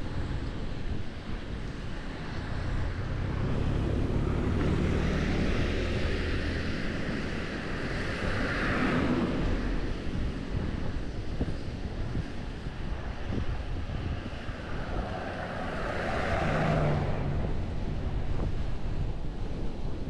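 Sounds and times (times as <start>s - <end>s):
low road rumble: 0.0s - 20.0s
wind buffeting microphone: 0.0s - 20.0s.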